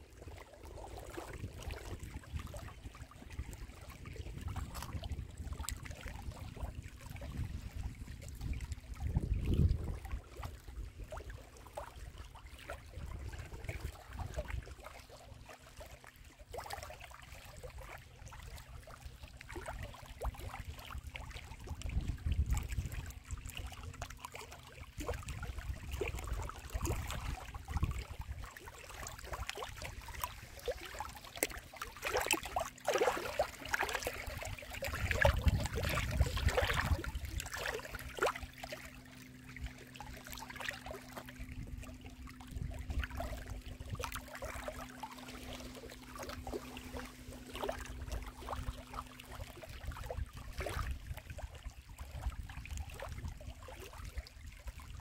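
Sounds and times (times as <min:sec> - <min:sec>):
waves lapping on stony shore: 0:00.0 - 0:55.0.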